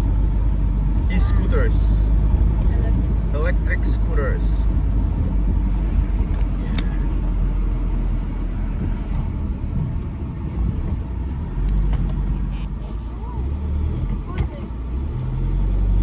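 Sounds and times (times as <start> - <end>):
low rumble of moving vehicle: 0.0 - 16.0.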